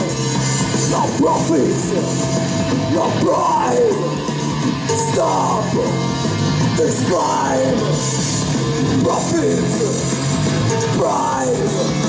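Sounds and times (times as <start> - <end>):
electric bass: 0.0 - 12.0.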